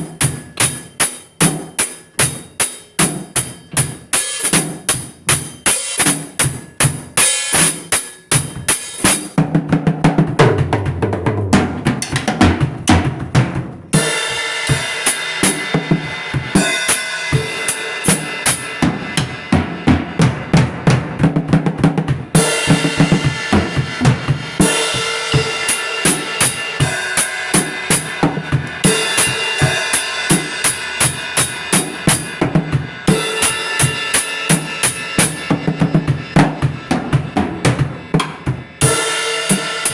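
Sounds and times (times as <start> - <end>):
music with drum-kit beat: 0.0 - 39.9.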